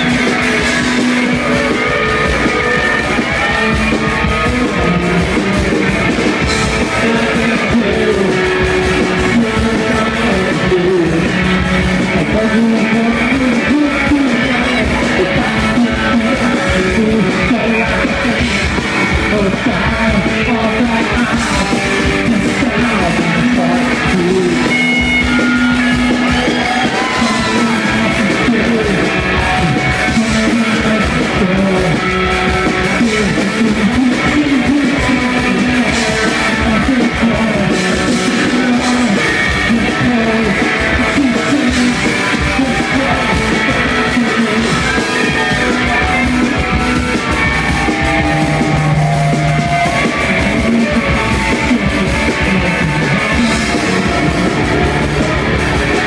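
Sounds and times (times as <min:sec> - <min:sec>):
drum kit: 0:00.0 - 0:56.0
loud electric guitars: 0:00.0 - 0:56.0.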